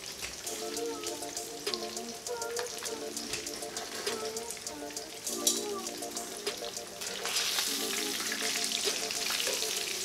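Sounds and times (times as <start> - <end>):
food frying in hot oil: 0.0 - 10.0
background music: 0.4 - 10.0.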